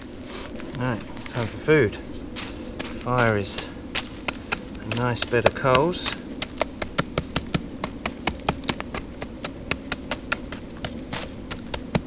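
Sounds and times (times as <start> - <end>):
campfire coals crackling: 0.0 - 12.0.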